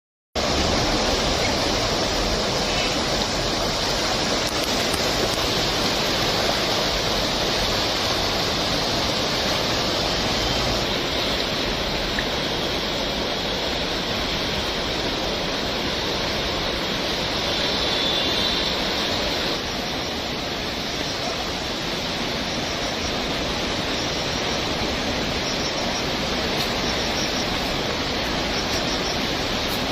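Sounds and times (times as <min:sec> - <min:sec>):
river water rushing: 0:00.4 - 0:29.9.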